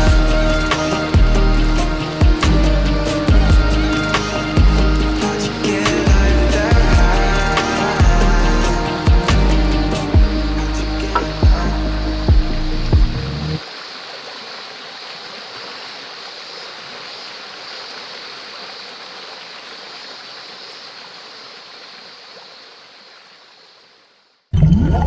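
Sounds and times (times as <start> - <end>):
stream water rushing: 0.0 - 23.8.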